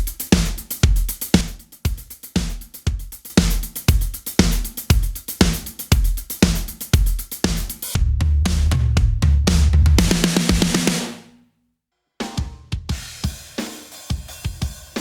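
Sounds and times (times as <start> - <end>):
drum loop: 0.0 - 11.3, 12.2 - 15.0.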